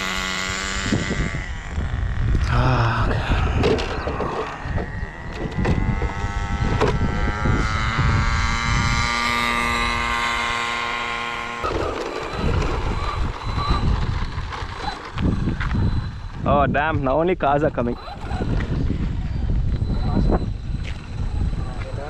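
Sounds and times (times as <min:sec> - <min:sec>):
electric motor whining: 0:00.0 - 0:22.0
wind rumble on microphone: 0:00.0 - 0:22.0.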